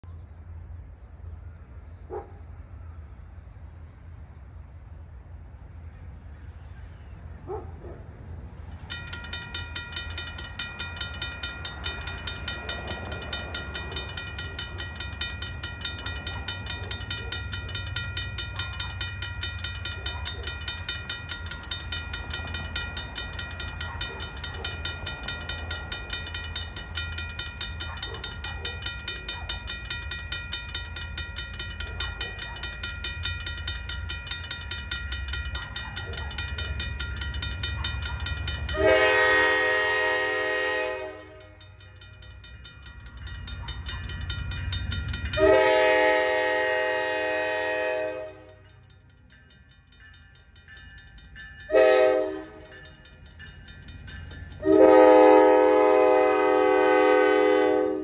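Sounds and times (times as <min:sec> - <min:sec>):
railroad crossing warning bell: 0:08.2 - 0:58.0.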